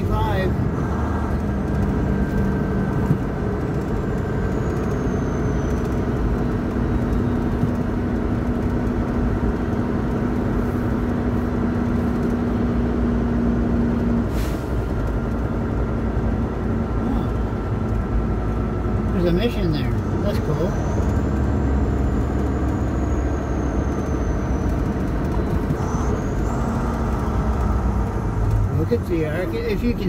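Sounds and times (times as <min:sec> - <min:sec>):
road noise: 0:00.0 - 0:30.0
truck diesel engine running: 0:00.0 - 0:30.0.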